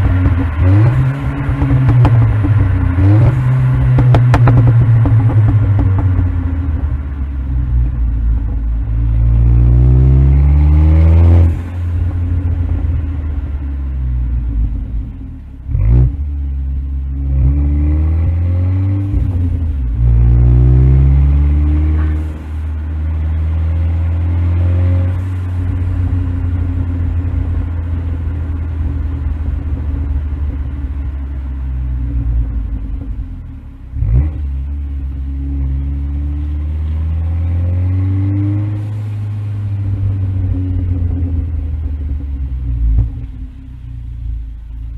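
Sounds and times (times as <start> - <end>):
car engine revving through gears: 0.0 - 7.9, 9.0 - 13.1, 14.4 - 31.2, 33.9 - 44.4
exhaust bangs: 0.0 - 44.9.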